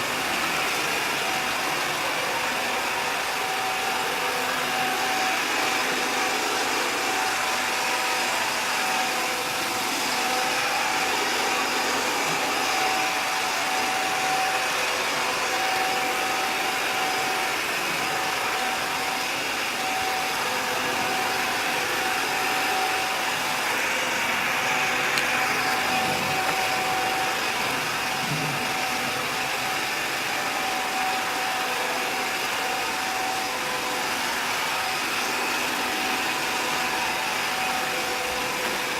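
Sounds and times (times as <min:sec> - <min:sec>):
robot vacuum cleaner whirring: 0:00.0 - 0:38.9.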